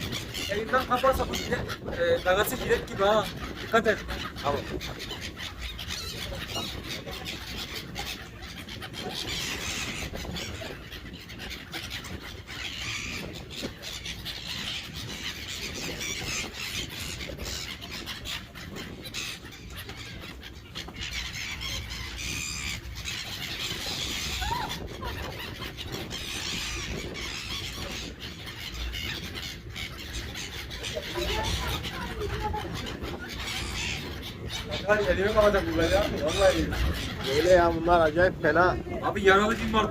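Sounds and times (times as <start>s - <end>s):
seagulls calling: 0.0s - 39.9s.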